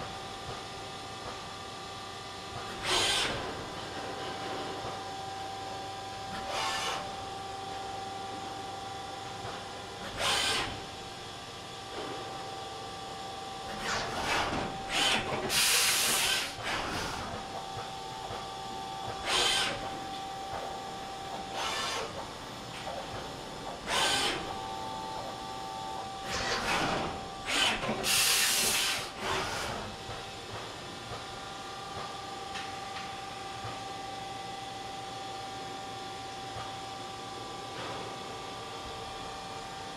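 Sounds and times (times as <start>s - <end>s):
machining center humming and whining: 0.0s - 39.9s.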